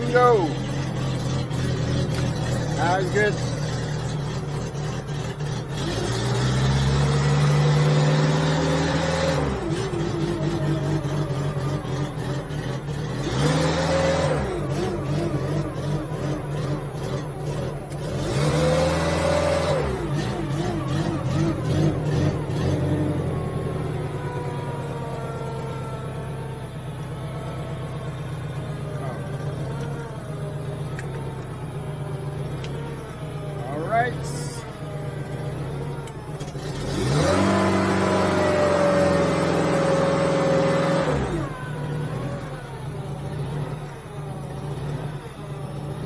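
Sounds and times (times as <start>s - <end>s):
engine revving and idling: 0.0s - 46.0s.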